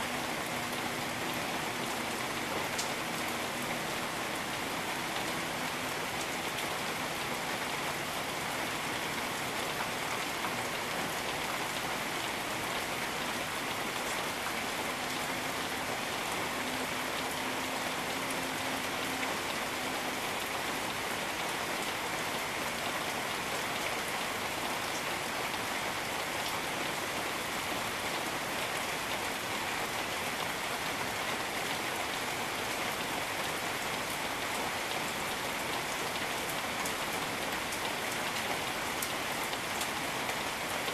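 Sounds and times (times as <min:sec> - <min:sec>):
steady rain on leaves: 0:00.0 - 0:40.9.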